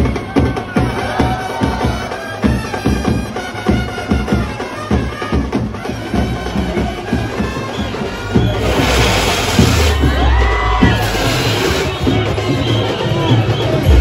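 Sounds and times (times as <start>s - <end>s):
steady drum beat: 0.0s - 14.0s
wind instrument melody: 0.0s - 14.0s.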